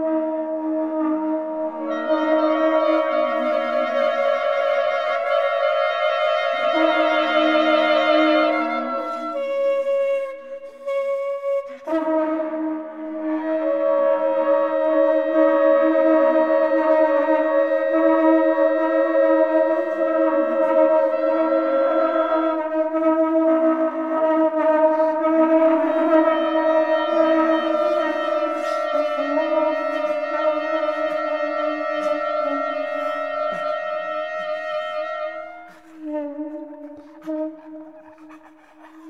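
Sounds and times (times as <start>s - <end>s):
english horn: 0.0s - 39.0s
horn: 0.0s - 39.0s
conch-shell trumpets: 1.0s - 9.6s, 11.8s - 39.0s.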